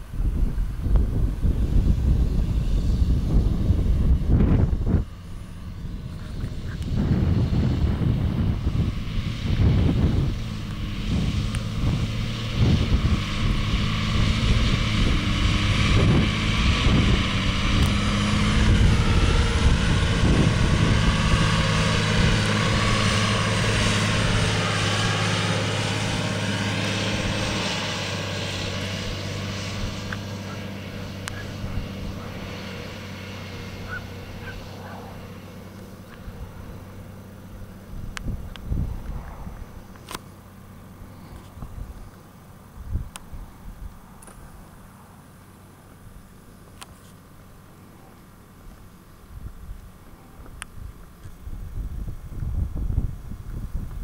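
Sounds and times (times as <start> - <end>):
wind buffeting microphone: 0.0 - 44.3, 49.3 - 54.0
tractor diesel engine driving past: 0.0 - 54.0.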